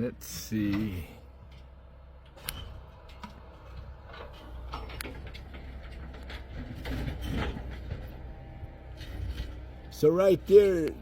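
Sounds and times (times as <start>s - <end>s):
excavator engine rumble: 0.0s - 11.0s.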